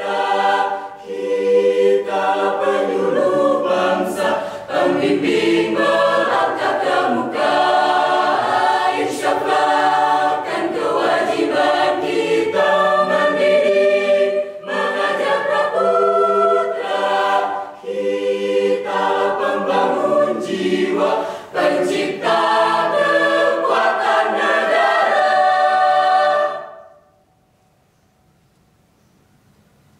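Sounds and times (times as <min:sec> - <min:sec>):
mixed choir singing: 0:00.0 - 0:27.2.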